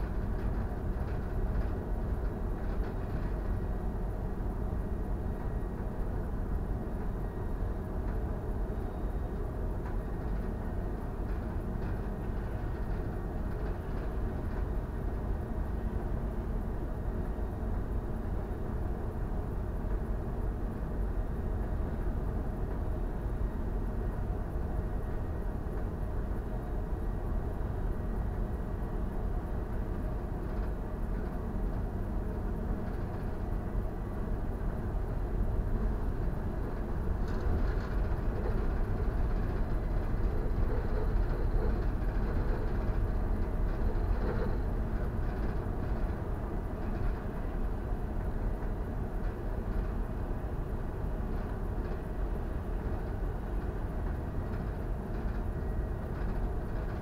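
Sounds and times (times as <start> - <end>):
ship low rumble and hiss: 0.0 - 57.0.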